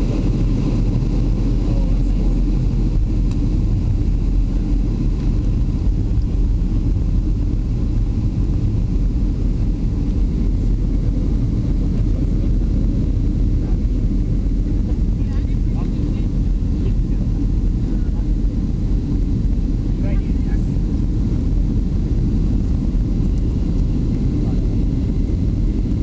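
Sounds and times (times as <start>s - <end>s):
aircraft cabin engine rumble: 0.0s - 26.0s
airflow through fuselage: 0.0s - 26.0s.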